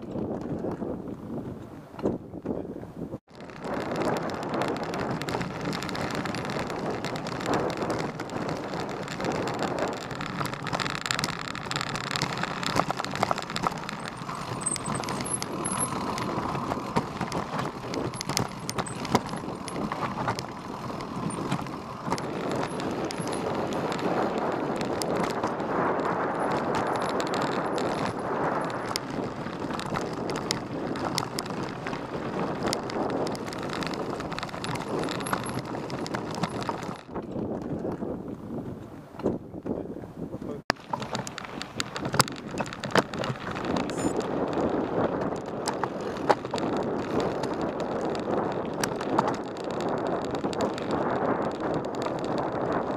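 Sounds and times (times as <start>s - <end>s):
steady rolling rush: 2.6s - 52.9s
bike knocks and rattles: 3.2s - 39.8s, 40.4s - 52.9s
tyres crunching over gravel: 3.3s - 38.8s, 40.7s - 52.9s.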